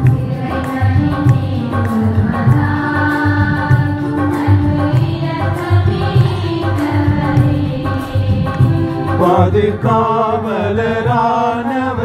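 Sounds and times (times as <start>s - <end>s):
devotional hymn music: 0.0s - 12.0s.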